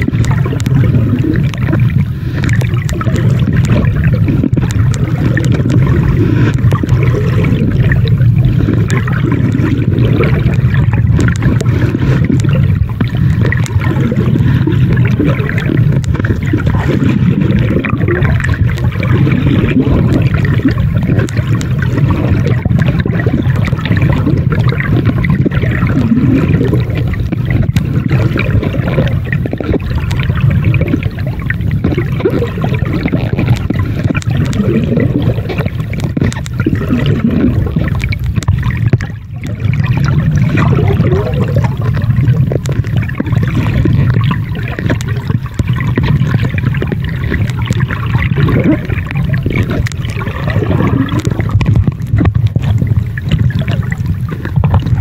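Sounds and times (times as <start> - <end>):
small bubbling sounds: 0.0 - 55.0
underwater water sloshing and gurgling: 0.0 - 55.0.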